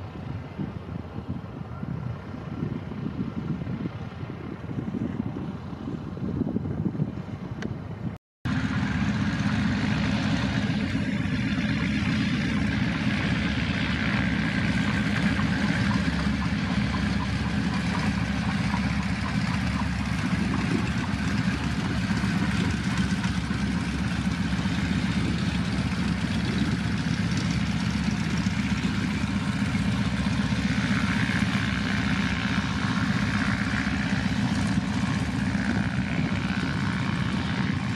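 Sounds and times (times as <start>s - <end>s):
radial aircraft engines taxiing: 0.0s - 37.9s.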